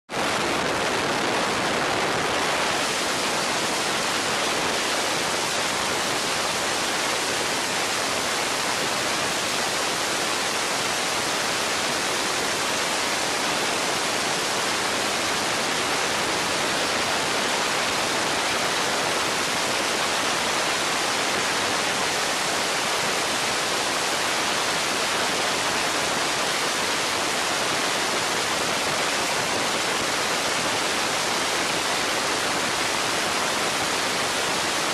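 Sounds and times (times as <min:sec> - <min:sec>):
wind rushing over microphone: 0:00.1 - 0:34.9.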